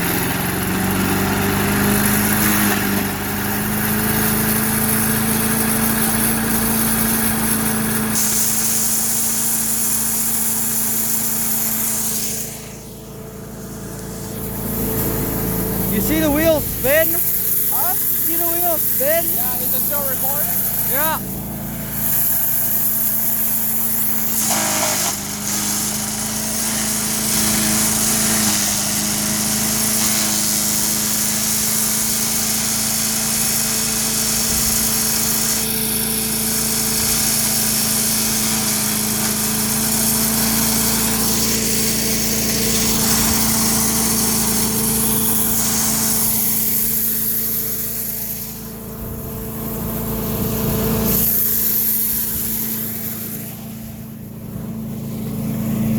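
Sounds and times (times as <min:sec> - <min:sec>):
wood chipper engine running: 0:00.0 - 0:55.9.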